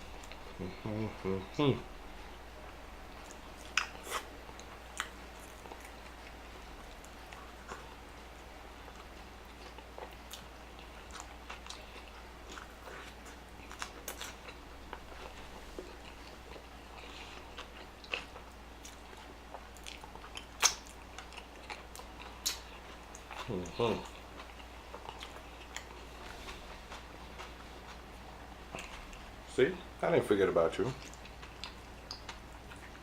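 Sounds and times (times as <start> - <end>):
person chewing food: 0.0 - 1.4, 2.2 - 29.4, 30.9 - 33.0.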